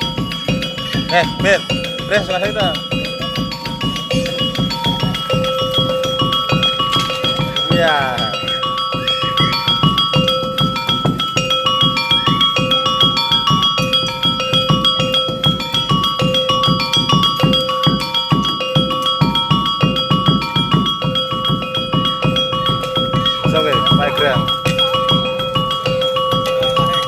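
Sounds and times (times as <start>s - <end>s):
steady drumbeat: 0.0s - 27.0s
tuned metal percussion melody: 0.0s - 27.0s.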